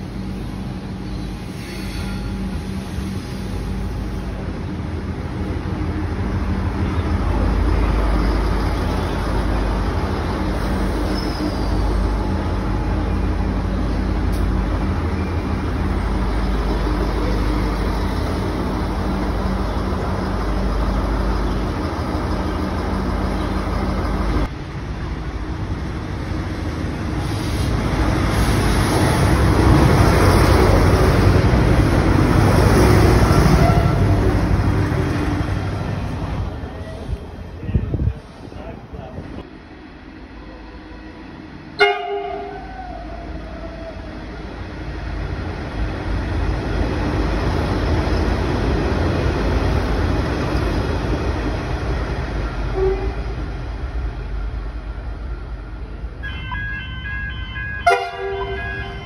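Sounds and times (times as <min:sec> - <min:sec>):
diesel railcar engine drone: 0:00.0 - 0:59.0
train passing close: 0:00.0 - 0:59.0.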